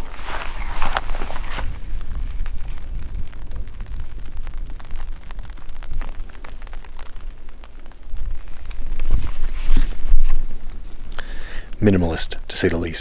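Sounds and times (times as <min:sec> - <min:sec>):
wind buffeting microphone: 0:00.0 - 0:11.8
light ticks like raindrops: 0:00.0 - 0:13.0.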